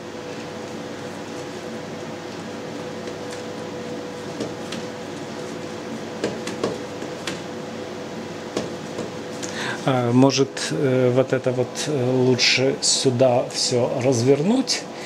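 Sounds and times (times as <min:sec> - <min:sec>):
appliance hum: 0:00.0 - 0:15.0.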